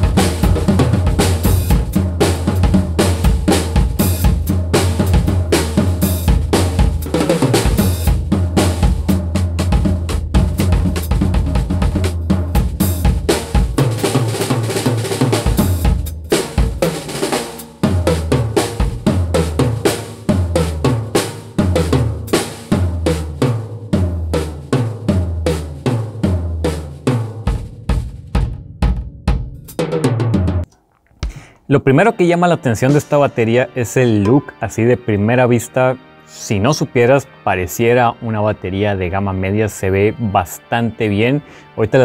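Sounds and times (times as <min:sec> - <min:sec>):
drum kit playing: 0:00.0 - 0:31.5, 0:32.2 - 0:35.7.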